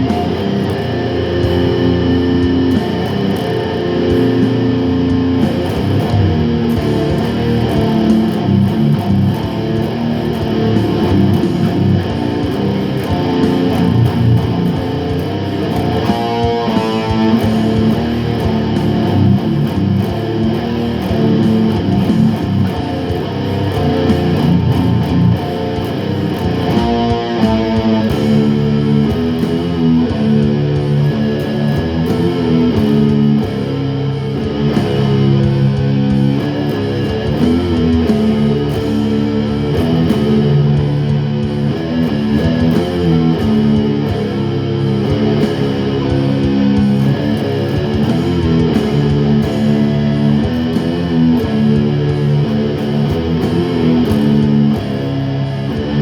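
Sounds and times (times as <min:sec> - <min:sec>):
bass guitar: 0:00.0 - 0:56.0
electric guitar: 0:00.0 - 0:56.0
higher guitar passage: 0:00.0 - 0:56.0.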